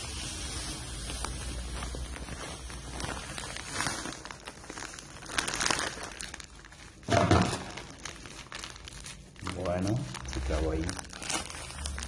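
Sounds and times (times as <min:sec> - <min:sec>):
plastic bag crinkling: 0:00.0 - 0:12.0
sugar pouring into a pot: 0:00.0 - 0:12.0.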